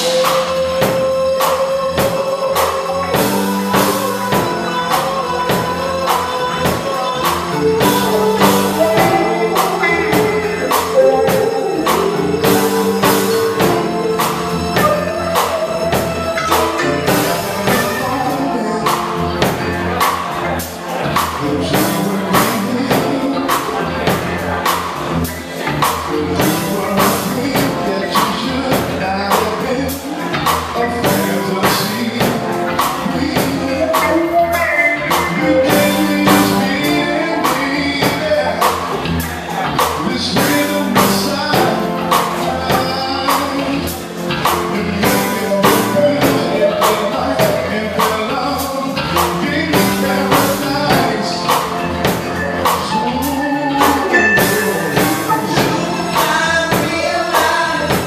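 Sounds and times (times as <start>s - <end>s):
funk band playing: 0.0s - 58.0s
man singing into a microphone: 0.0s - 58.0s.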